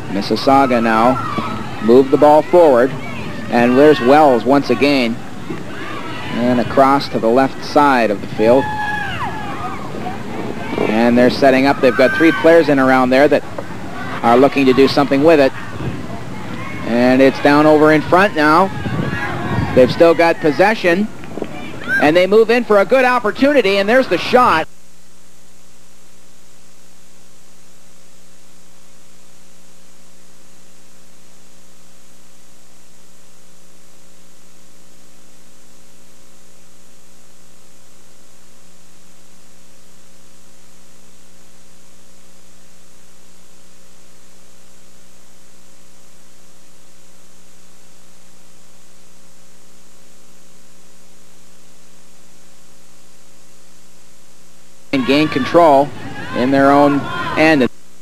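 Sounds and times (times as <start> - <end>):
electrical mains hum: 0.0 - 58.0
steady hiss: 0.0 - 58.0.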